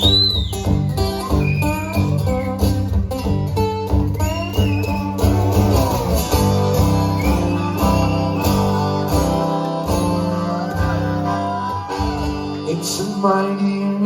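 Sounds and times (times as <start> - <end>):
guitars: 0.0 - 14.0
live country-rock band playing: 0.0 - 14.0.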